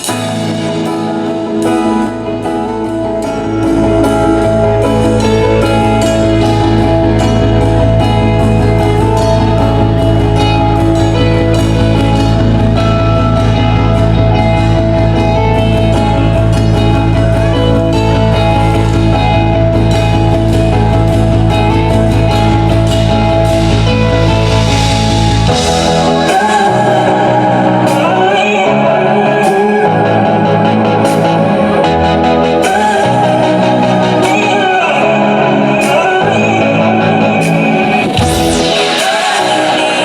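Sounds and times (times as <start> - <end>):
amplified guitar and drums music: 0.0 - 40.0.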